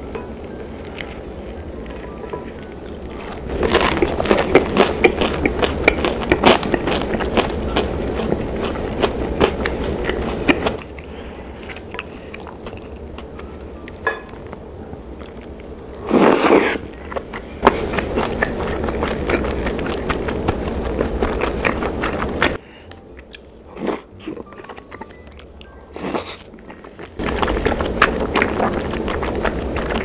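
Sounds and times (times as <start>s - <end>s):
close chewing with mouth clicks: 0.8s - 14.5s, 15.2s - 30.0s.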